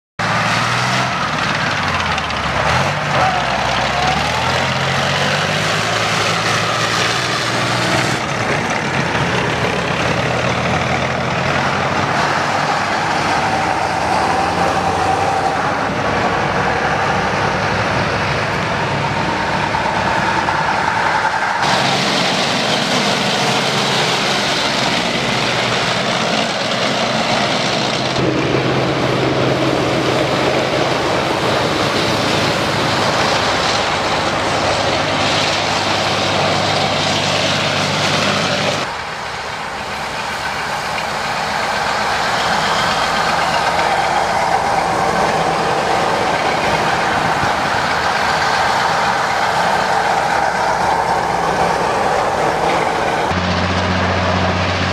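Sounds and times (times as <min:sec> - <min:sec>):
army trucks driving past: 0:00.2 - 0:54.9
tracked armoured vehicle passing: 0:00.2 - 0:54.9.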